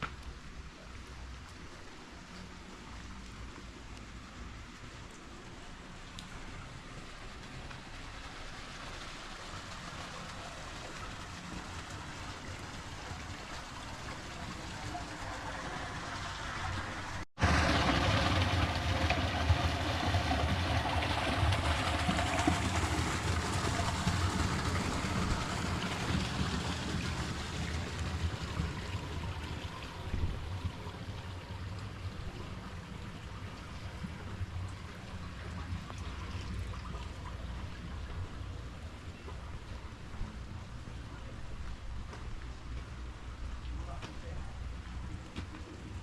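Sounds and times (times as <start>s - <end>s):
rushing water and rain: 0.0s - 46.0s.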